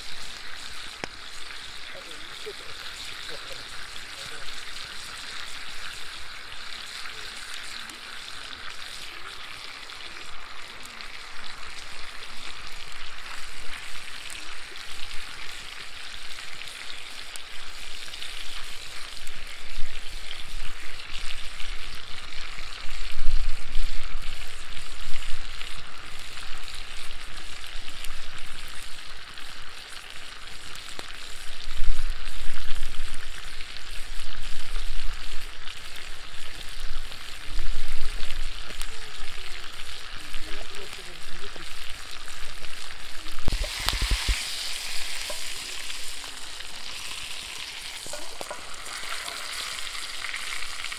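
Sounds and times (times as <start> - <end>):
steak sizzling in butter: 0.0 - 50.9.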